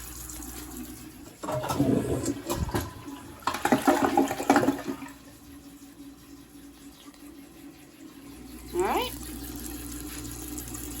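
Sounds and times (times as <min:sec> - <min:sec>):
toilet flushing: 0:00.0 - 0:11.0.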